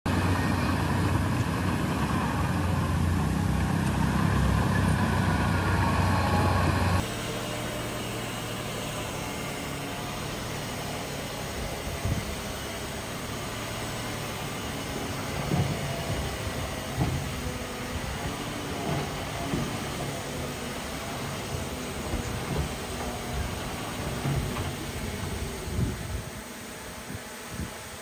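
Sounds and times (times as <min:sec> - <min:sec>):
diesel machinery engine running: 0:00.1 - 0:27.4.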